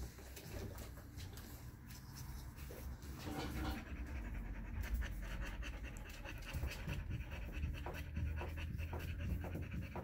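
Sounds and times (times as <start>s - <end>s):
dog panting: 0.1s - 10.0s.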